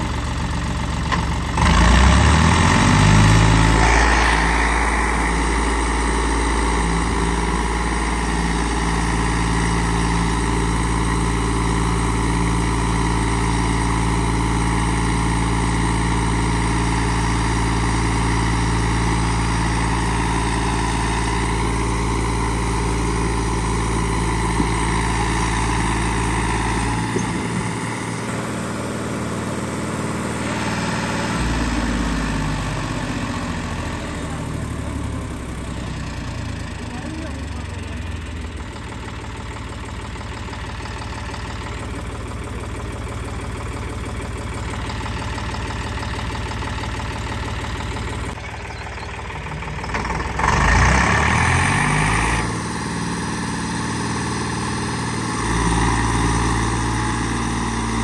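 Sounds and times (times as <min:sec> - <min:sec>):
tractor diesel engine straining: 0:00.0 - 0:58.0.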